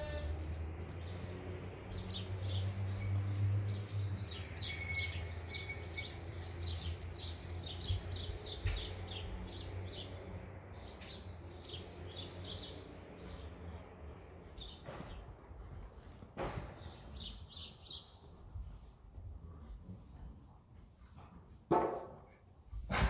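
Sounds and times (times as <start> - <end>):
small birds chirping: 0.5 - 20.2.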